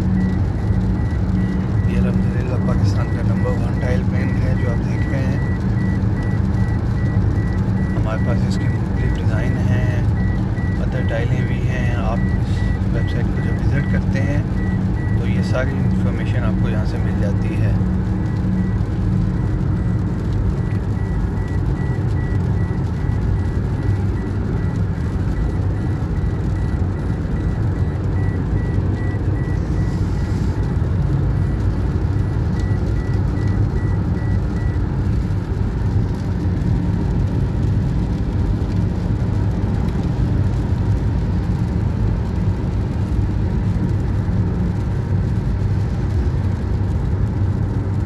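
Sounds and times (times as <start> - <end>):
car engine rumble inside cabin: 0.0 - 48.0.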